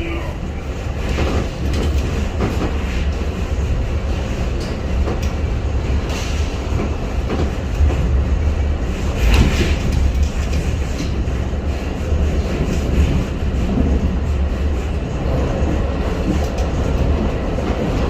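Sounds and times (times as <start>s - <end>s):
train rumbling by: 0.0s - 18.0s
wheels clicking on rails: 0.9s - 18.0s.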